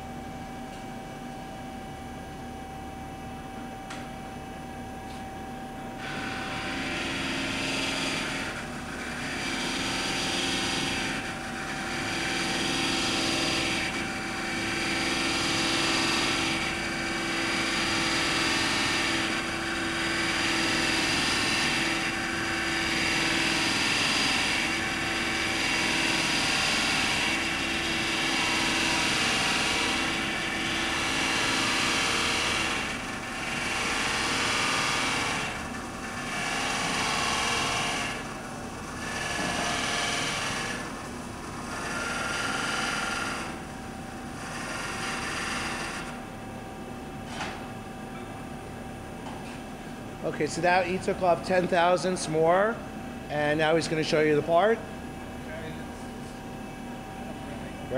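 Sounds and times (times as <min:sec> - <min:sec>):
machine hum: 0:00.0 - 0:57.9.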